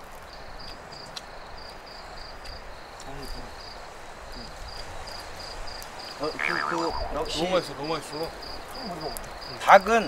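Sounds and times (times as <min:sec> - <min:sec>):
crickets chirping: 0:00.3 - 0:10.0.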